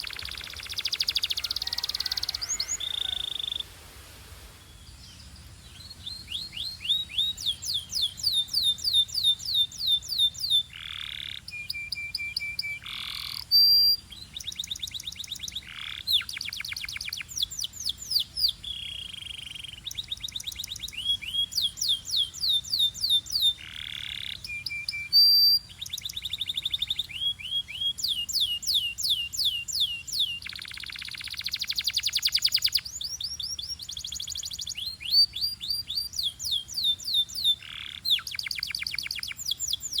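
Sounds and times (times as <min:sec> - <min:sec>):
canary singing trills: 0:00.0 - 0:03.7, 0:04.8 - 0:40.0.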